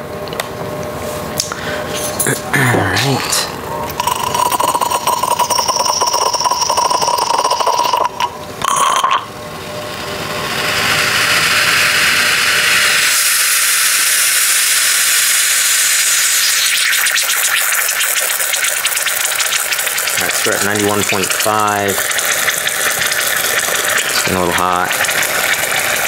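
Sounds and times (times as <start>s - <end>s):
espresso machine buzzing and hissing: 3.0s - 26.0s.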